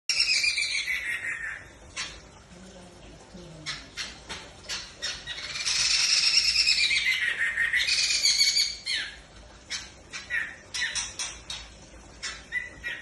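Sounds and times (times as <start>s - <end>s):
songbird chirping and warbling: 0.1s - 13.0s.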